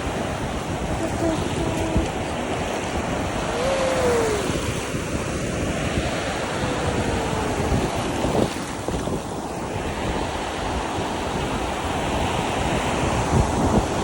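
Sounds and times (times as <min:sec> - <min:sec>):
sea waves washing onto shore: 0:00.0 - 0:14.0
wind buffeting microphone: 0:00.0 - 0:14.0.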